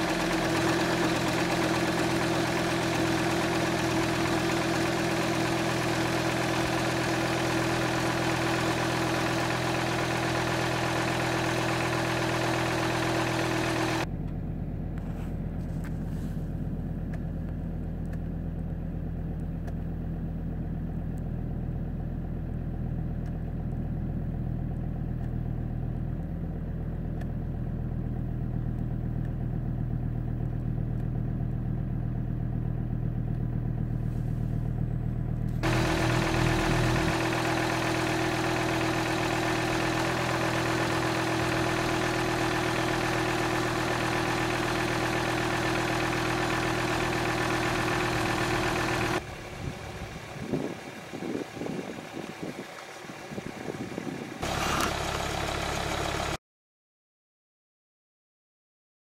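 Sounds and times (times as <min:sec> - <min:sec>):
diesel engine idling: 0:00.0 - 0:56.4.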